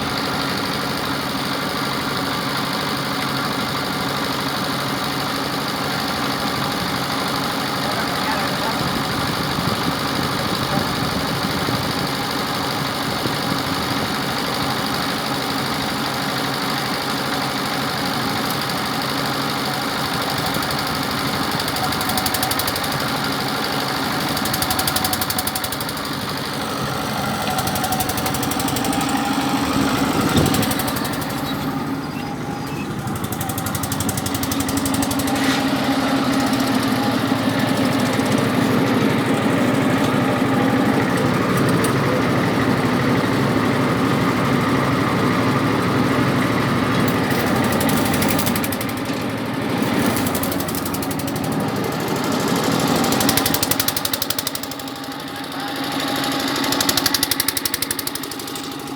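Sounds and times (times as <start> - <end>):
engine idling: 0.0 - 58.9.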